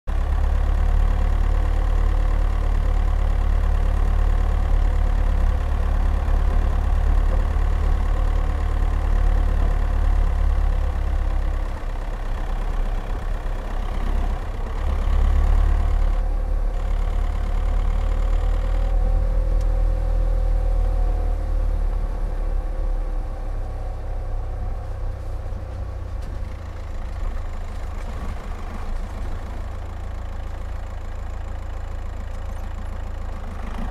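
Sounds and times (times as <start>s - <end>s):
diesel car engine rumble: 0.0s - 33.9s.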